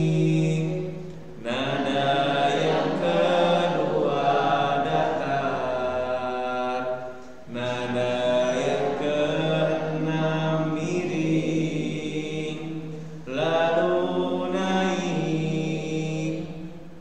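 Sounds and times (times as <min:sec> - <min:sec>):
man chanting recitation: 0:00.0 - 0:16.6.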